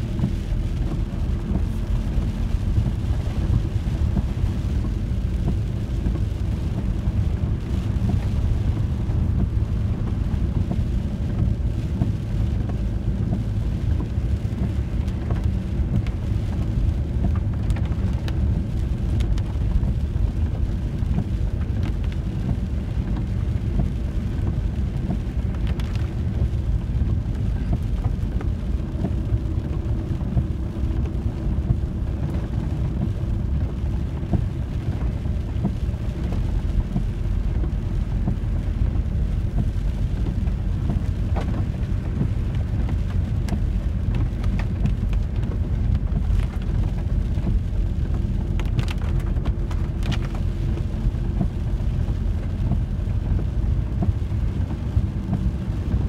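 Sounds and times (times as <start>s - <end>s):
engine and road rumble: 0.0s - 56.0s
light ticks: 2.5s - 56.0s.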